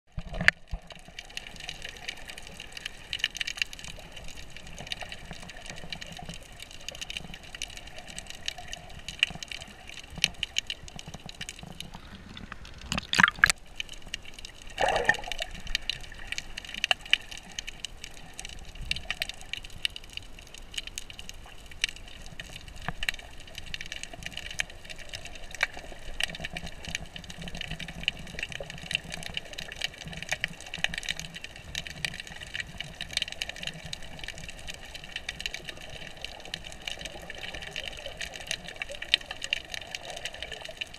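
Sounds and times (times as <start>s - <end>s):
crackling clicks: 0.1s - 40.9s.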